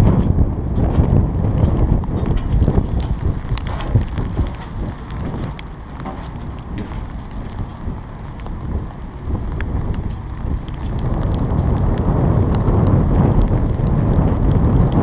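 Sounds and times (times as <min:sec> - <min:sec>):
rain ticking on camera: 0:00.0 - 0:15.0
wind noise on microphone: 0:00.0 - 0:15.0.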